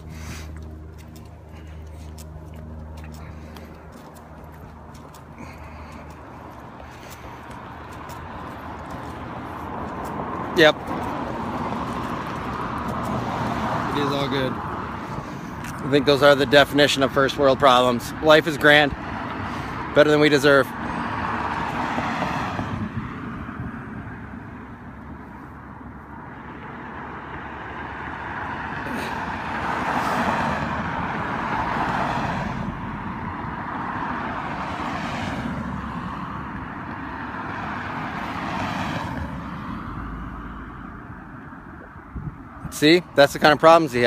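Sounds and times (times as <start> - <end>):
cars passing: 0.0 - 44.0.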